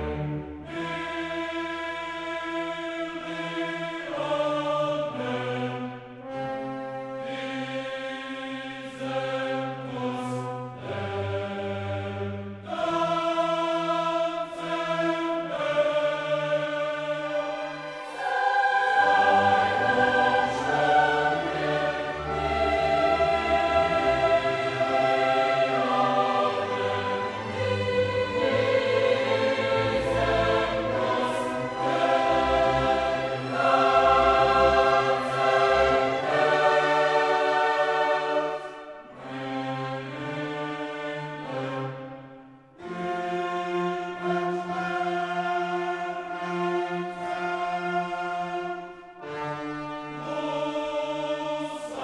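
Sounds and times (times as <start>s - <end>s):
choir singing held chords: 0.0s - 52.0s.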